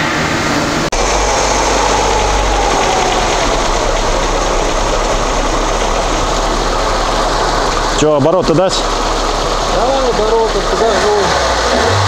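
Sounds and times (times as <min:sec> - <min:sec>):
faint whine sinking in pitch: 0:00.0 - 0:12.0
car engine idling: 0:00.3 - 0:12.0.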